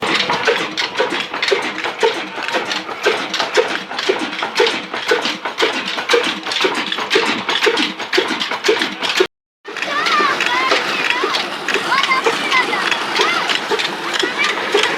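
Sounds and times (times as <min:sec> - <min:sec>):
diesel engine knocking rhythmically: 0:00.0 - 0:14.9.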